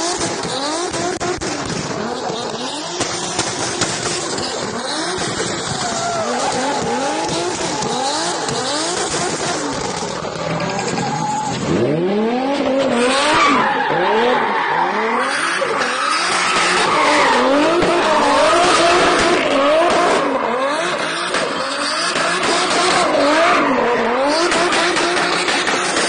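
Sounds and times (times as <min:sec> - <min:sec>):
car engine revving: 0:00.0 - 0:26.0
tyres spinning and skidding: 0:00.0 - 0:26.0.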